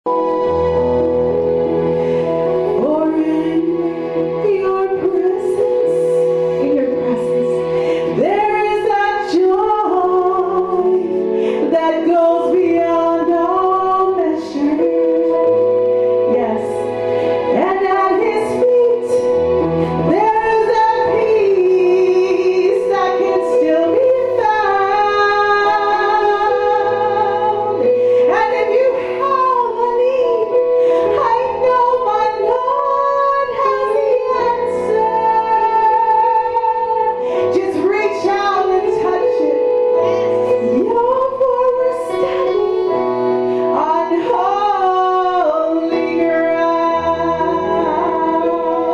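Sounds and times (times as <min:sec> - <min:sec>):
electronic keyboard chords: 0:00.0 - 0:48.9
woman singing into microphone: 0:00.1 - 0:48.9.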